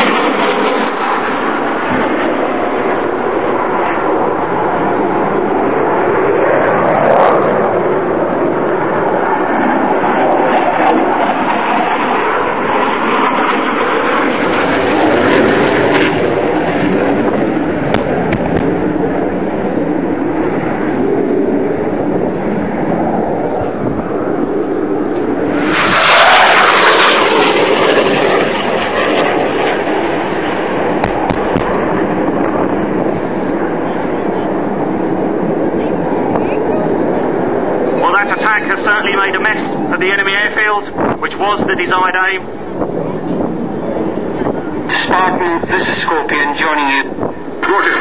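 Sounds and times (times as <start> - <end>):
jet flying past: 0.0 - 48.0.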